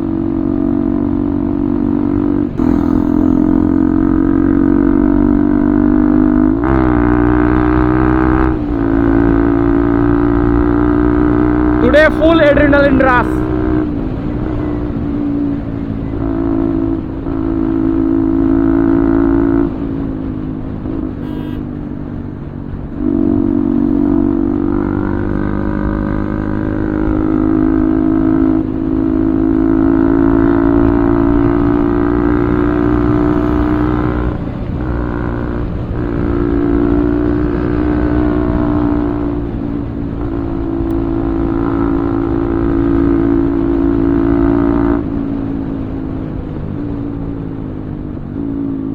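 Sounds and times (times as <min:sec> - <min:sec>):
motorcycle exhaust under throttle: 0:00.0 - 0:48.9.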